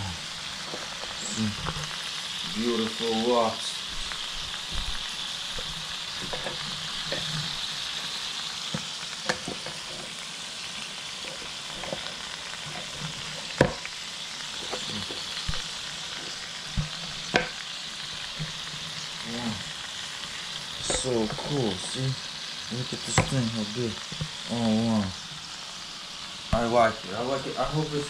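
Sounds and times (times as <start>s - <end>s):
lobsters sizzling on a grill: 0.0s - 28.0s.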